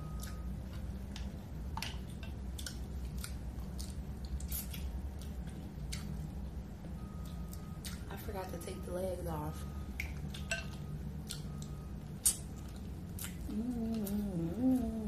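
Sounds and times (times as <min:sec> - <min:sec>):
biting and chewing shrimp: 0:00.0 - 0:08.1, 0:09.9 - 0:15.0
steady low hum: 0:00.0 - 0:15.0.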